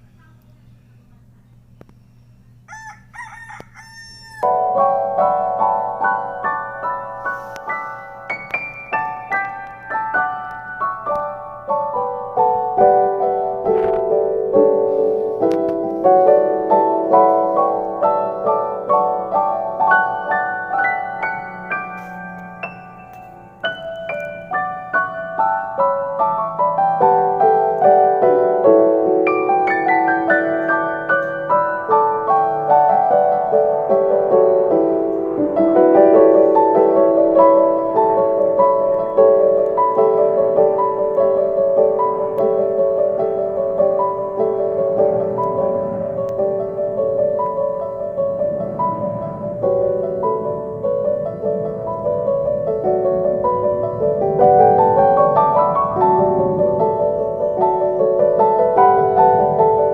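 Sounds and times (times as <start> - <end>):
gentle solo piano melody: 4.4 - 59.9.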